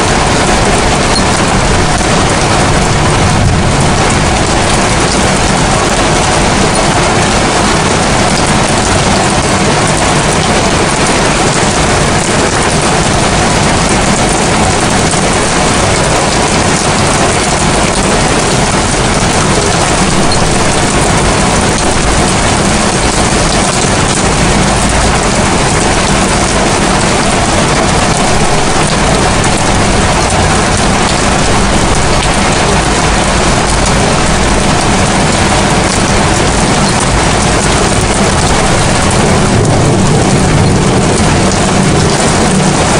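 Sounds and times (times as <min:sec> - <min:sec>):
rain falling on rooftops: 0:00.0 - 0:42.9.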